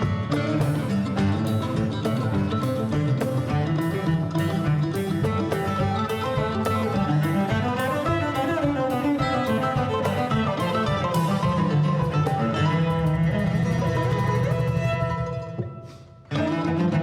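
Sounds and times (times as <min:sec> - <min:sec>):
steady beat: 0:00.0 - 0:14.9
bowed strings: 0:00.0 - 0:17.0
plucked guitar and mandolin: 0:00.0 - 0:17.0.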